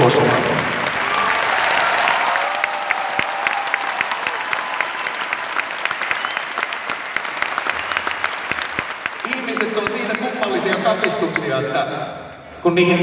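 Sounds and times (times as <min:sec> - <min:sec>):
large audience applauding: 0:00.0 - 0:11.6.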